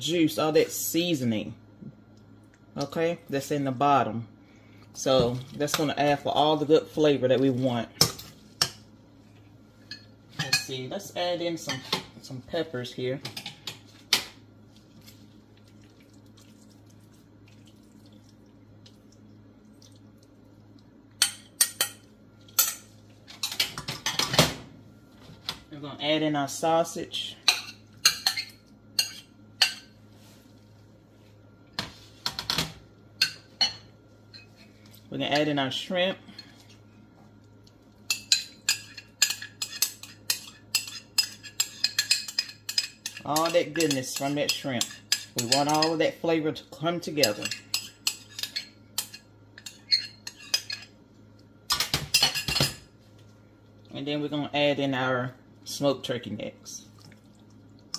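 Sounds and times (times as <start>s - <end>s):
low steady hum: 0.0s - 57.9s.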